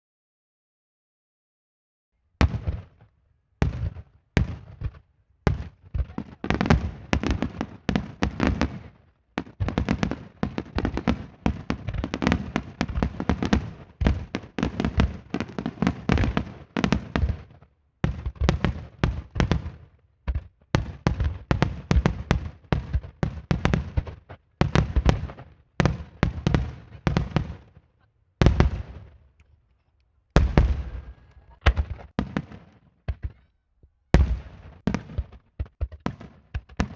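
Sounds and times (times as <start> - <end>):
fireworks bursting: 2.4 - 27.8, 28.4 - 29.4, 30.4 - 33.5, 34.1 - 36.9.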